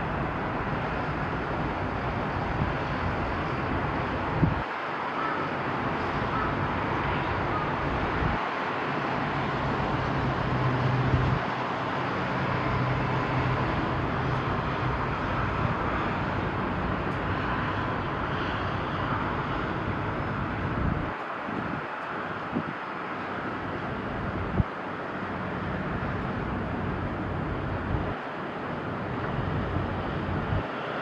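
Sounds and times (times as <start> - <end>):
distant traffic: 0.0 - 31.0.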